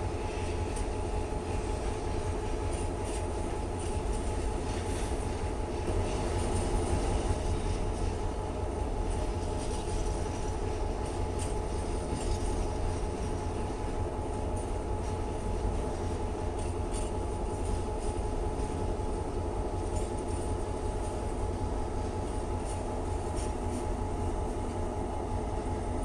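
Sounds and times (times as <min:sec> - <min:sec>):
faint hum: 0:00.0 - 0:26.0
freight train wagons rumbling: 0:00.0 - 0:26.0.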